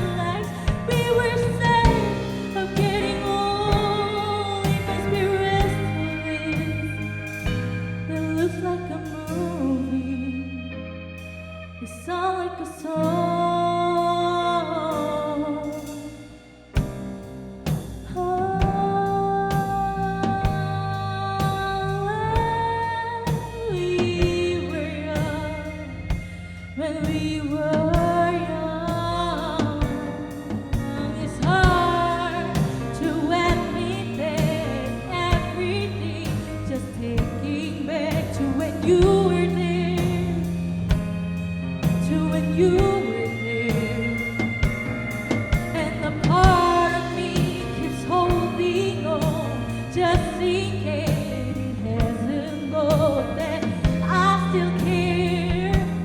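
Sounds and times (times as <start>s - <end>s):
live rock band playing: 0.0s - 12.0s, 12.8s - 56.0s.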